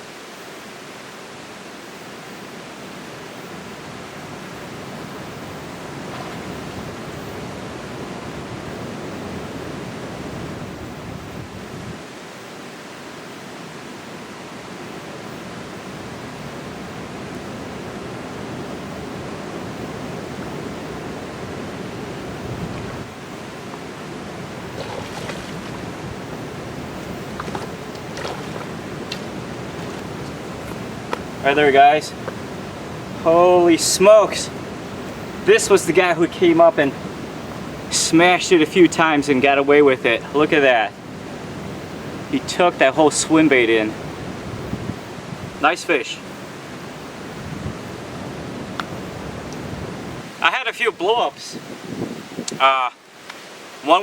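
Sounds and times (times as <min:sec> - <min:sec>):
river water rushing: 0:00.0 - 0:52.4, 0:53.0 - 0:54.0.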